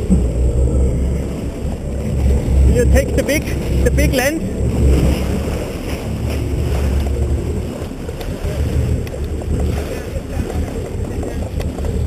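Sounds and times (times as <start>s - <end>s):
boat rumble: 0.0s - 12.0s
sea wash: 0.0s - 12.0s
wind buffeting microphone: 0.0s - 12.0s.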